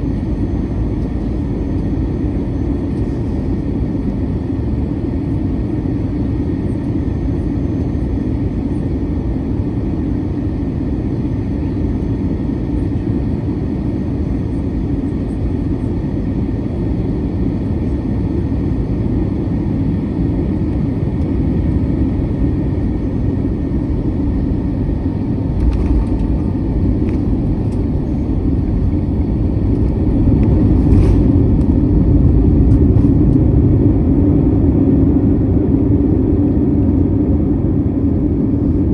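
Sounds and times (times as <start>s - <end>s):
engine and airflow rumble: 0.0s - 38.9s.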